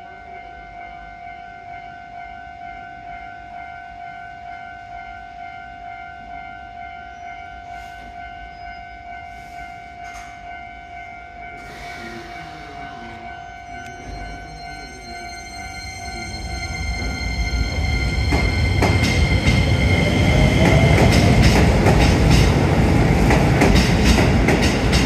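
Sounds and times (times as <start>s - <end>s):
electric train inverter whine: 0.0s - 25.0s.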